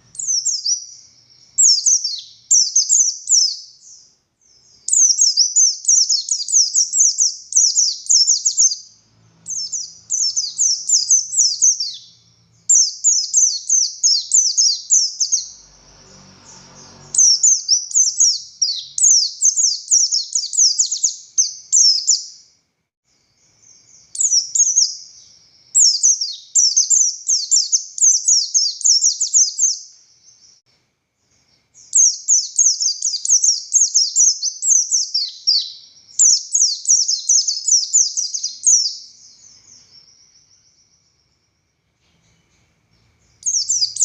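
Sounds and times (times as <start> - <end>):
bird singing high chirps: 0.0 - 30.6, 31.2 - 44.0.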